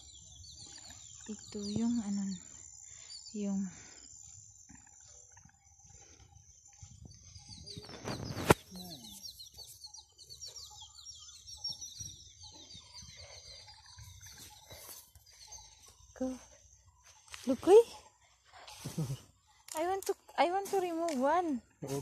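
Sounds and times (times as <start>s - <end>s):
birds calling and chirping: 0.0s - 22.0s.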